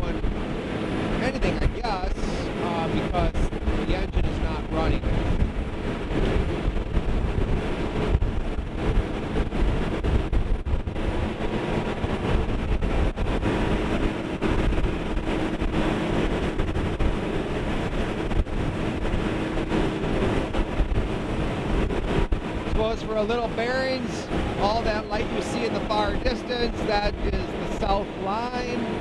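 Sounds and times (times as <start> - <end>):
rushing water: 0.0 - 10.0, 10.7 - 29.0
boat engine drone: 0.0 - 29.0
wind buffeting microphone: 0.0 - 29.0.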